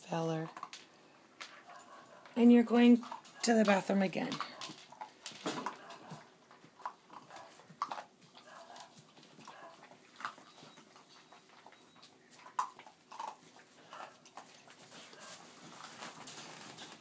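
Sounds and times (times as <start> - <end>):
puppies crunching kibble: 0.0 - 17.0.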